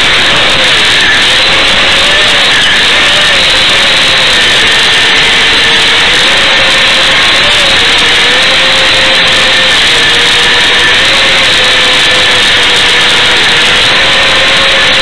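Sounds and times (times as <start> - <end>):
faint wavering whine: 0.0 - 15.0
loud static hiss: 0.0 - 15.0.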